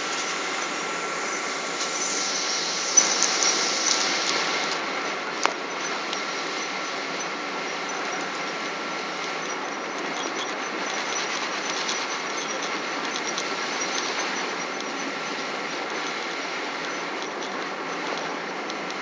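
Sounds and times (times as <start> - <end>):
airplane cabin engine and air noise: 0.0 - 19.0
thin steady whine: 0.0 - 19.0.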